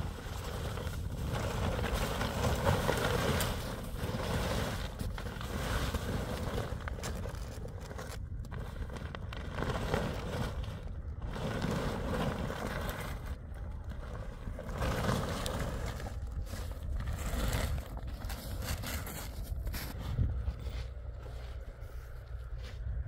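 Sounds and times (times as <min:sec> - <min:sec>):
tent fabric rustling and crumpling: 0:00.0 - 0:22.9
low rumble: 0:00.0 - 0:23.0.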